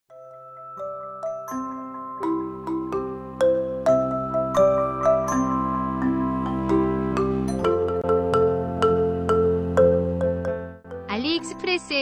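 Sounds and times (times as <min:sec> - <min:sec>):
melody of ringing struck notes: 0:00.1 - 0:11.7.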